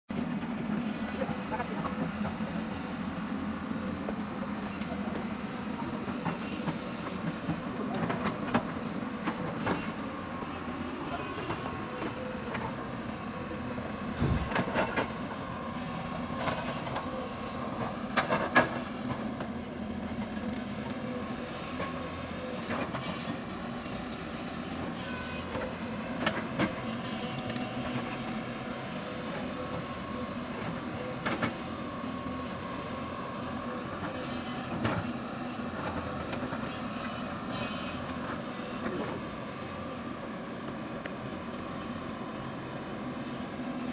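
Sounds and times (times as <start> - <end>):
excavator diesel engine running: 0.1 - 43.9.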